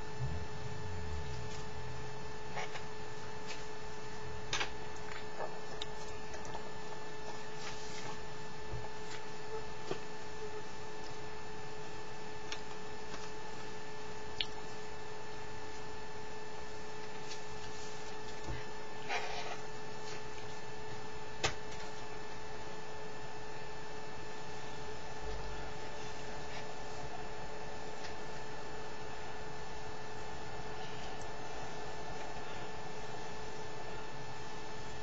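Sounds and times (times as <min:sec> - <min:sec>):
electrical hum with whine: 0:00.0 - 0:35.0.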